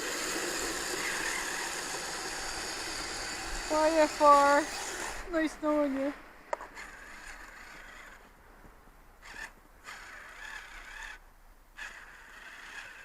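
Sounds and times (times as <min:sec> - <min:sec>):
faint whirring of electric motor: 0:00.0 - 0:13.0.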